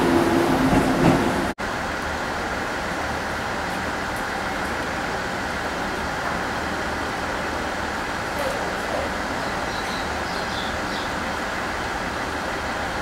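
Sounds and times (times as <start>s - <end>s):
electric train hum and rumble: 0.0s - 13.0s.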